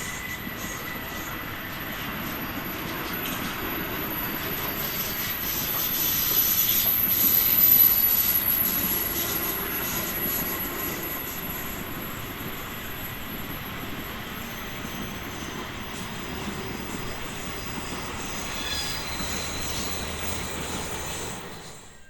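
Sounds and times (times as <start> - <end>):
train passing with rumbling roar: 0.0 - 22.0.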